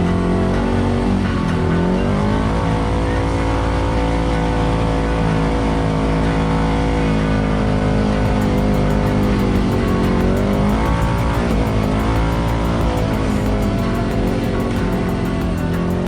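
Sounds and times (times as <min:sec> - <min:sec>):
engine running under throttle: 0:00.0 - 0:16.0.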